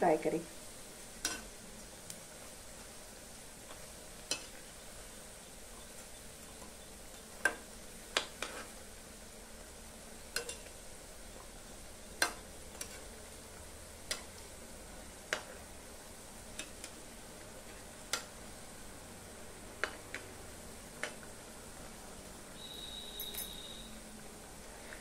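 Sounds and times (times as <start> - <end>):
food deep-frying in oil: 0.0 - 25.0.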